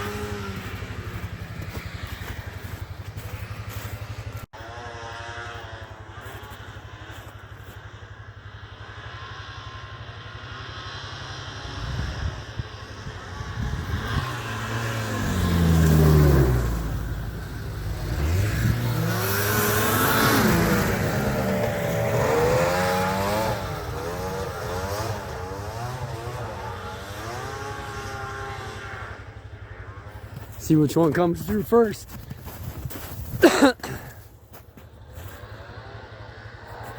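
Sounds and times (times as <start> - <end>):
snowmobile engines revving: 0.0 - 36.9.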